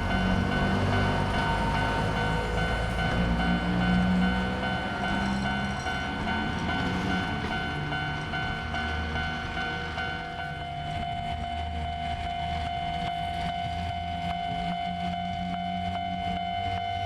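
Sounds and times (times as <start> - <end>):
electric train hum and whine: 0.0 - 17.0
train low rumble: 0.0 - 17.0.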